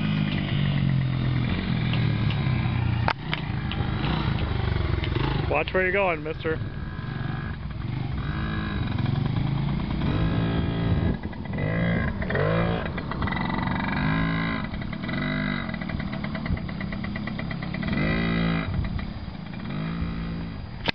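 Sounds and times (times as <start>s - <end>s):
small dirt bike engines revving: 0.0s - 20.9s.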